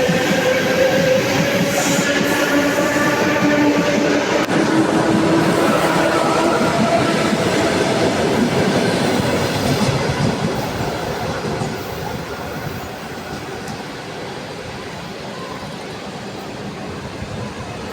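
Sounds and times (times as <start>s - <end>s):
train wheels rumbling and clattering: 0.0s - 17.9s.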